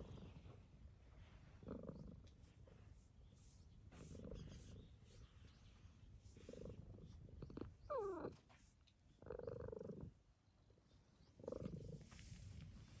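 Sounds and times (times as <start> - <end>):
cat purring: 0.0 - 3.0, 3.8 - 13.0.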